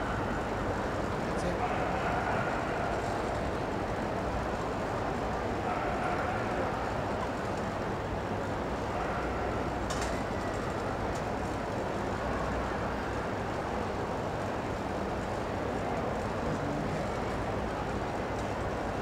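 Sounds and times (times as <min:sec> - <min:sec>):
indoor arena hum: 0:00.0 - 0:19.0.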